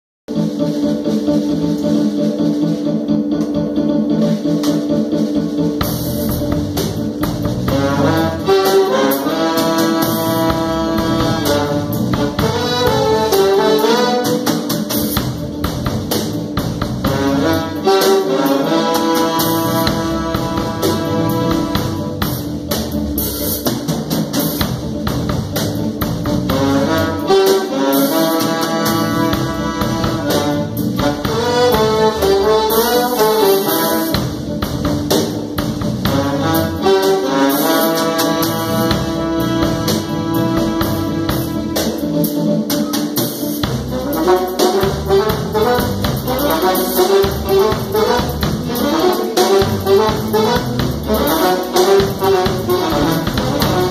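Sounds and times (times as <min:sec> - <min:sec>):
steady beat: 0:00.3 - 0:53.9
saxophone and trombone riff: 0:05.8 - 0:23.7, 0:24.5 - 0:53.9.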